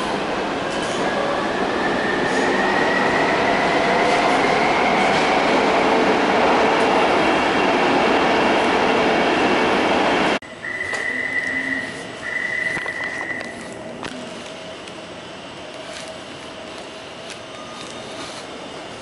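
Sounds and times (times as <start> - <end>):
subway train wheels rumbling: 0.0 - 19.0
train high whine: 0.0 - 19.0.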